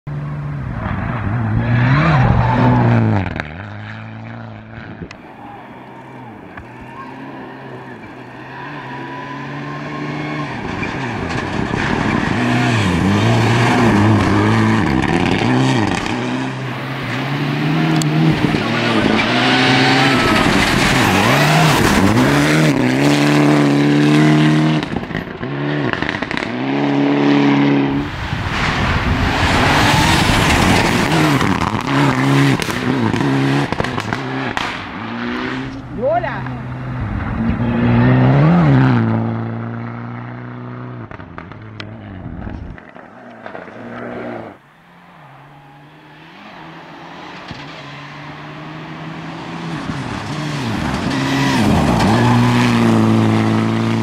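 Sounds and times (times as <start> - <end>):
rally car engine revving: 0.1 - 54.0.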